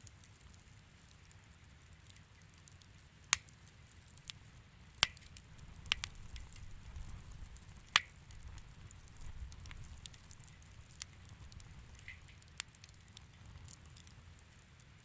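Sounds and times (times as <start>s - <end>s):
fire crackling softly: 0.0s - 15.0s.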